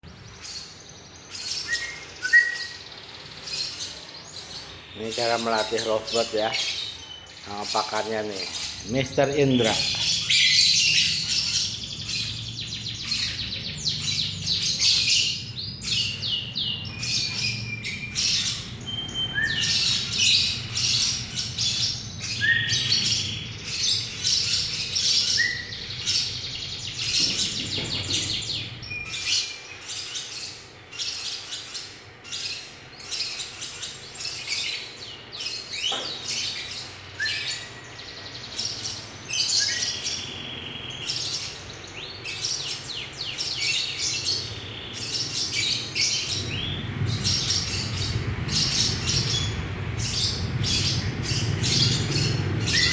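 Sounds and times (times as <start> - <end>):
lovebird chirping: 0.0 - 52.9.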